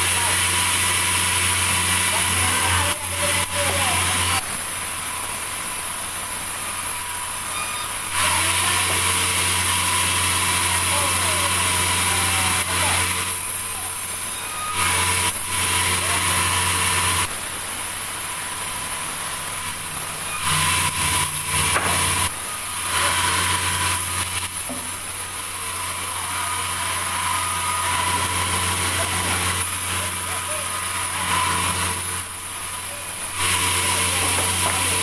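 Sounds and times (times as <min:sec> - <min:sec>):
sawmill machinery humming and whining: 0:00.0 - 0:35.0.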